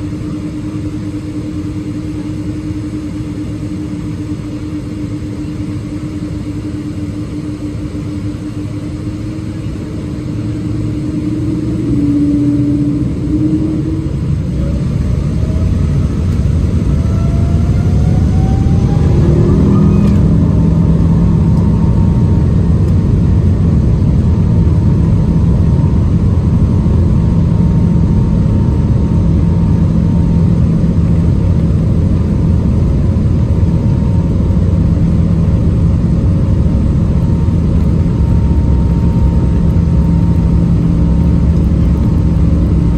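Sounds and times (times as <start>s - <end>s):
jet engines spooling up: 0.0s - 42.9s.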